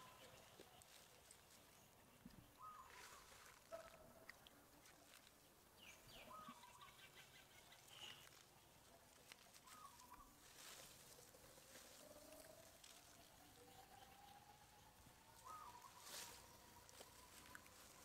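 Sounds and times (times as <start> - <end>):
faint chirping calls: 0.0 - 18.0
faint forest ambience: 0.0 - 18.0.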